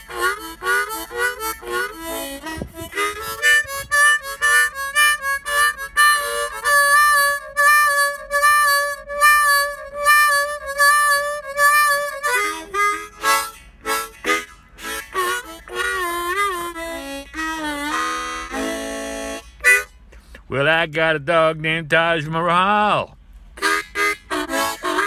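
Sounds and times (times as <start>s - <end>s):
blues harmonica chords: 0.0s - 22.4s, 23.3s - 25.0s.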